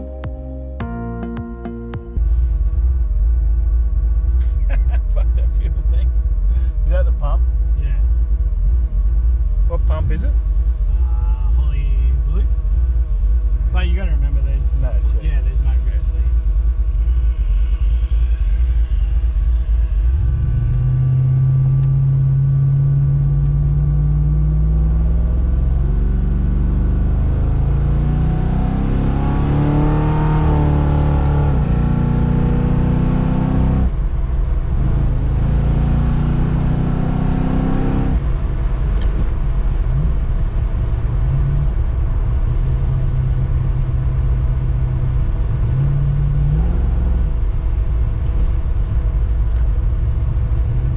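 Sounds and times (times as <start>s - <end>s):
car engine accelerating: 2.2s - 50.9s.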